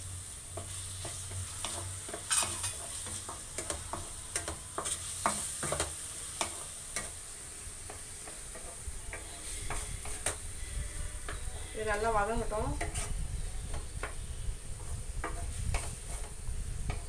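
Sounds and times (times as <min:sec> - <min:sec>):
oil sizzling: 0:00.0 - 0:17.0
spatula tapping pan: 0:00.5 - 0:10.5, 0:11.2 - 0:17.0
wooden spatula scraping metal pan: 0:00.5 - 0:17.0.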